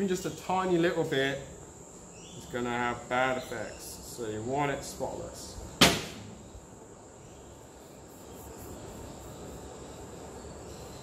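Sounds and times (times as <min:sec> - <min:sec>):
low workshop background noise: 0:00.0 - 0:11.0.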